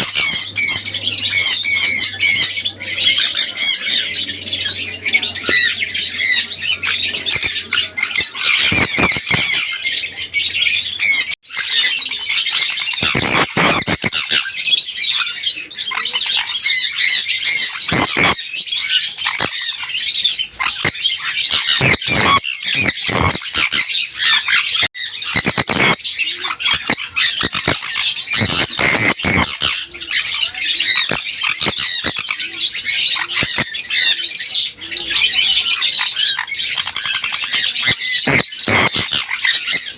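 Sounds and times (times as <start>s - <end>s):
parrots screeching and squawking: 0.0s - 39.9s.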